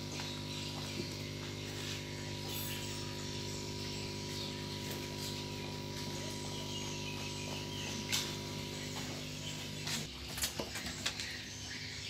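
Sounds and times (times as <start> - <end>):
steady low electrical hum: 0.0 - 12.0.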